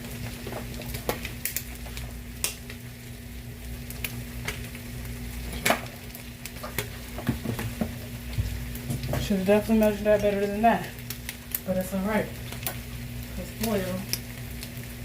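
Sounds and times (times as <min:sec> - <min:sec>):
bacon sizzling in frying pan: 0:00.0 - 0:15.0.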